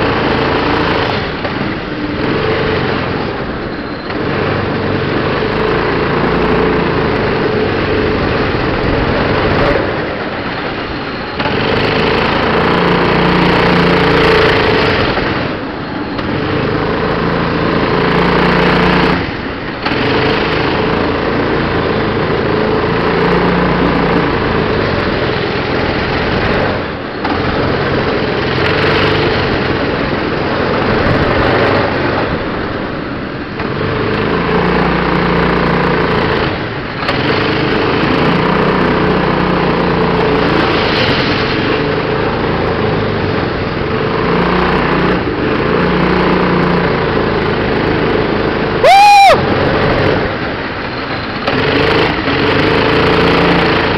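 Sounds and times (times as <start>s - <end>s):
go-kart engine running hard: 0.0s - 53.9s.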